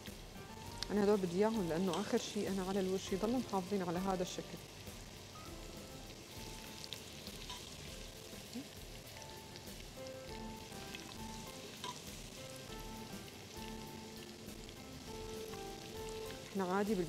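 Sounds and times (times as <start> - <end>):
carrots sizzling in a pot: 0.0 - 17.0.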